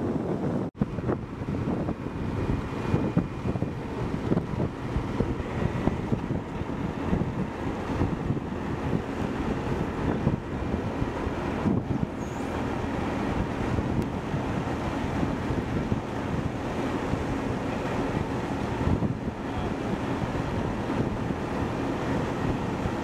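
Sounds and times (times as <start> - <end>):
low engine hum: 0.0 - 23.0
wind buffeting microphone: 0.0 - 23.0.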